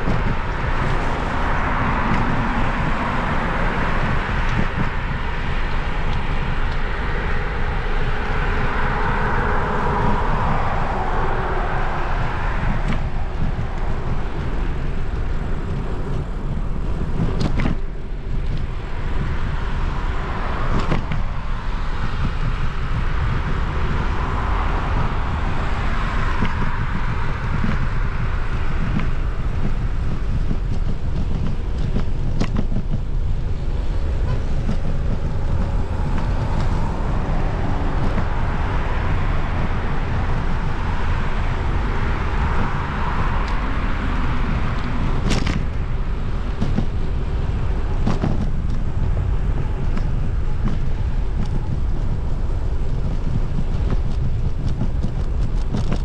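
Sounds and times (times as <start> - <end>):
bicycle tyre rumble on path: 0.0 - 56.0
wind buffeting microphone: 0.0 - 56.0.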